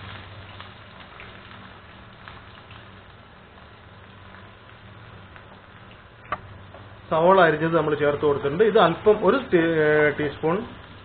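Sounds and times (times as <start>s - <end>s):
onions sizzling in hot oil: 0.0s - 11.0s
small crackles: 0.0s - 11.0s.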